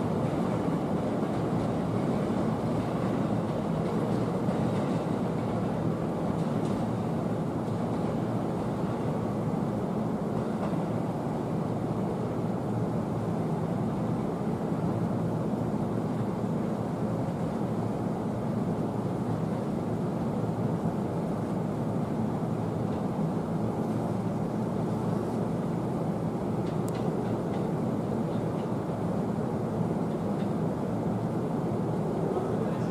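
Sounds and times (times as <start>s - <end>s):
train rumbling over tracks: 0.0s - 32.9s.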